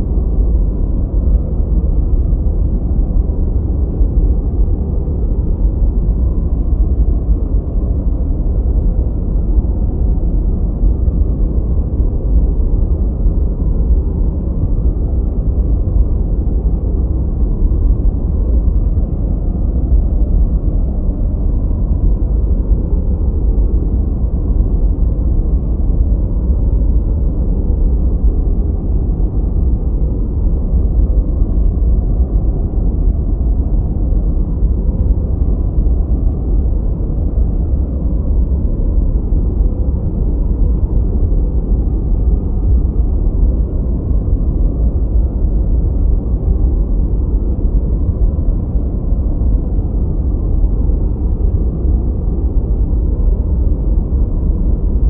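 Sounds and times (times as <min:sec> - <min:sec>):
muffled rumbling hiss: 0:00.0 - 0:55.0.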